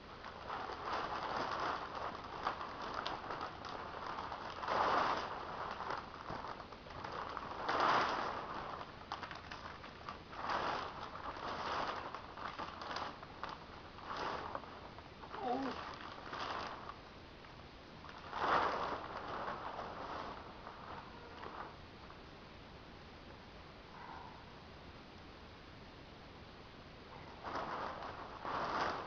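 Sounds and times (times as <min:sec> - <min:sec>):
plastic sheet rustling: 0:00.0 - 0:22.3, 0:27.0 - 0:29.0.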